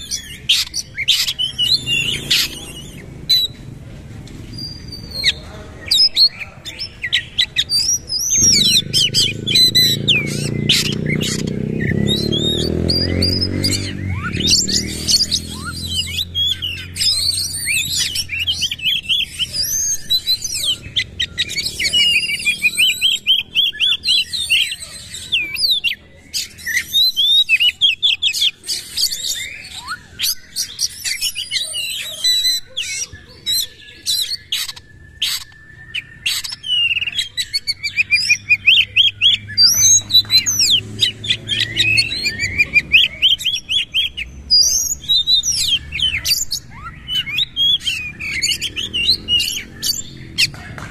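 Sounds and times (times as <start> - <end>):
bird singing trills and whistles: 0.0 - 50.9.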